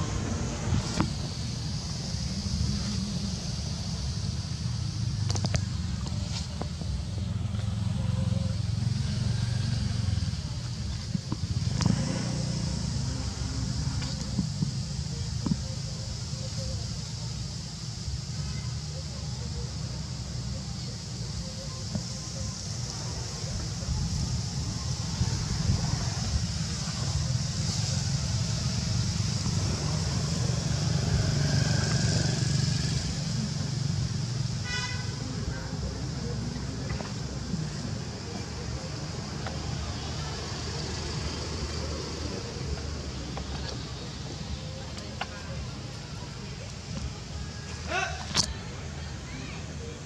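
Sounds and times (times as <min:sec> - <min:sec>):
motorcycle engine idling: 0:00.0 - 0:47.5
high hiss: 0:00.0 - 0:50.0.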